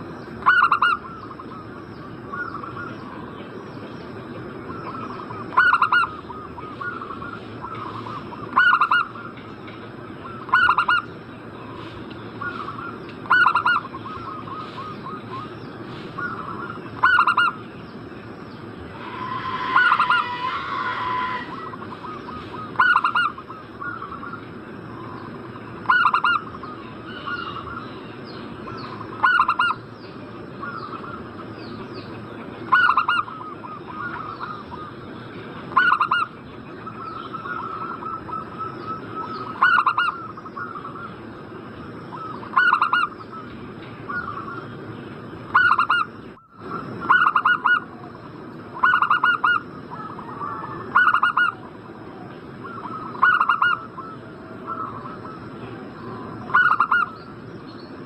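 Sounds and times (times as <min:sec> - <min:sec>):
doves cooing: 0:00.0 - 0:03.3, 0:04.6 - 0:09.5, 0:10.1 - 0:17.6, 0:18.8 - 0:28.0, 0:28.6 - 0:29.9, 0:32.6 - 0:35.0, 0:35.7 - 0:41.3, 0:42.1 - 0:44.8, 0:45.5 - 0:57.3.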